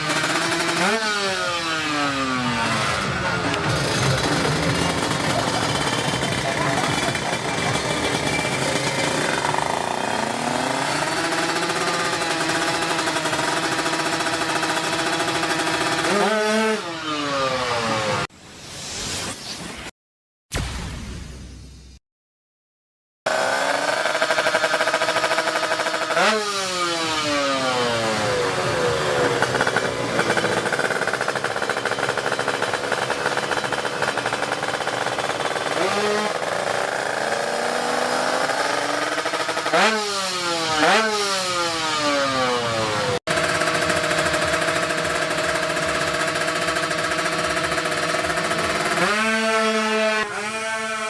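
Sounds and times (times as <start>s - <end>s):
two-stroke motorcycle engine revving: 0.0s - 18.3s, 23.3s - 51.0s.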